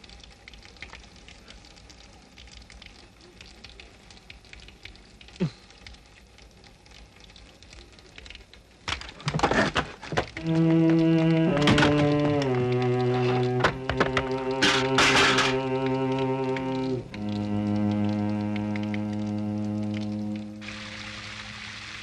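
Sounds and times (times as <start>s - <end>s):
faint steady crackle: 0.0s - 22.0s.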